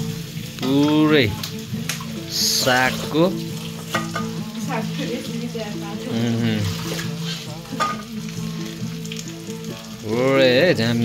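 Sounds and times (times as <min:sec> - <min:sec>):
greens rinsed in a steel sink: 0:00.0 - 0:11.0
tap water running and splashing: 0:00.0 - 0:11.0.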